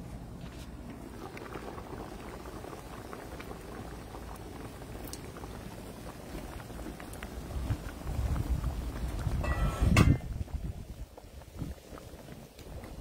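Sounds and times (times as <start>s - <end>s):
soup boiling and bubbling: 0.0s - 13.0s.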